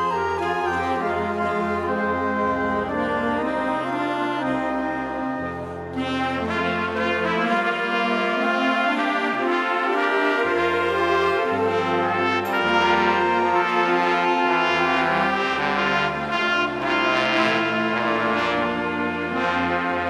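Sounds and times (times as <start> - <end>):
brass ensemble playing chords: 0.0 - 20.0
low tuba bass line: 0.0 - 20.0.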